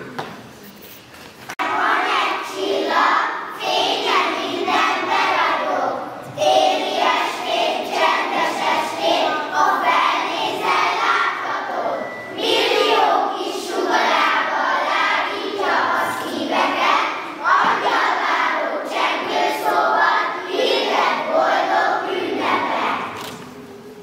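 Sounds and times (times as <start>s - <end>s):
children's choir singing: 1.6s - 24.0s.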